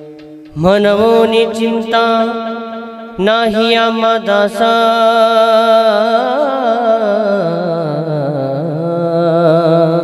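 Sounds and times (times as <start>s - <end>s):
man singing long note: 0.5s - 10.0s.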